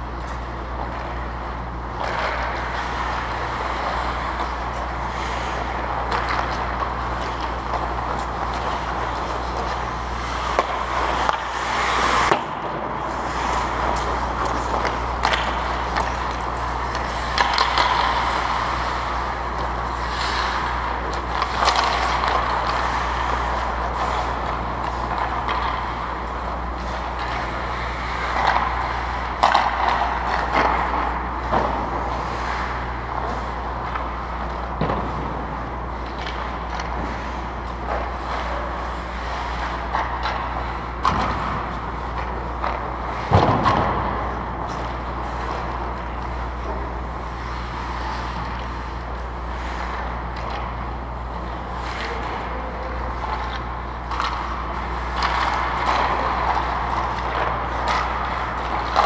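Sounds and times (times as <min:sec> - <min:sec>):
skates scraping on ice: 0:00.0 - 0:59.0
steady low hum: 0:00.0 - 0:59.0
sticks and puck clacking: 0:00.0 - 0:59.0.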